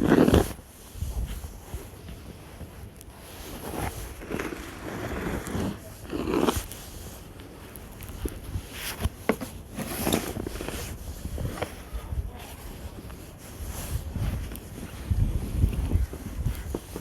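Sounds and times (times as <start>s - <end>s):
wind rumbling on microphone: 0.0s - 9.0s, 10.0s - 17.0s.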